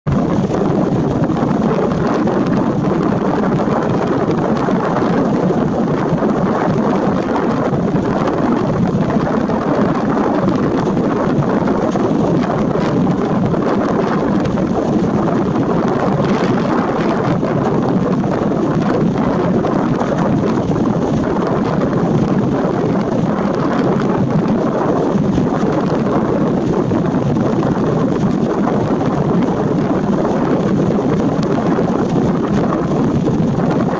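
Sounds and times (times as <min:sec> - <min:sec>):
wind: 0:00.0 - 0:33.9.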